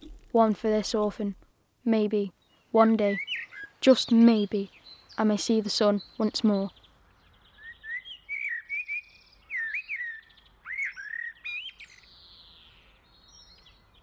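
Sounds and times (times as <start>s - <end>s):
faint outdoor background: 0.0s - 14.0s
songbird warbling: 2.4s - 13.8s.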